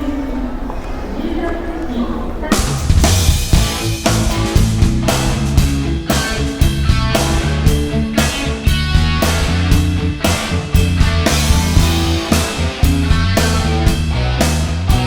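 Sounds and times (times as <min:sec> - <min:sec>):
loud rock music: 0:02.6 - 0:15.0.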